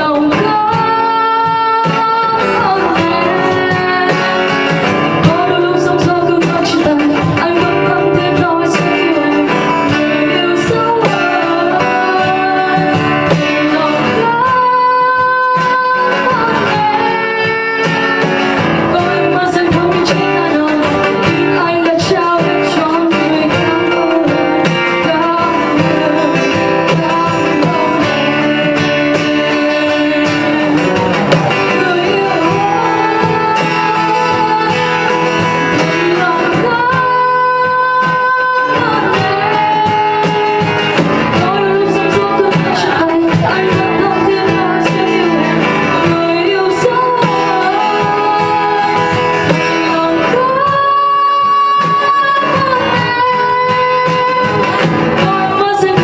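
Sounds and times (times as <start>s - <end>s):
acoustic guitar: 0.0s - 56.0s
woman singing into microphone: 0.0s - 56.0s.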